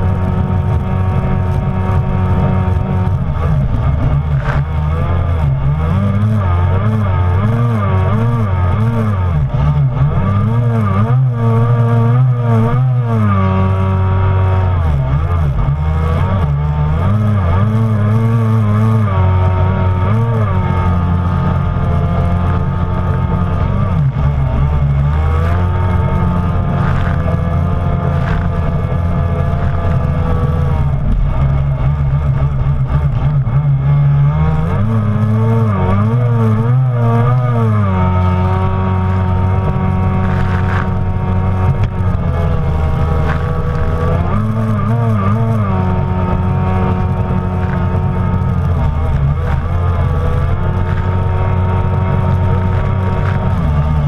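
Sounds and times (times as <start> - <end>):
jet ski engine running hard: 0.0 - 54.0.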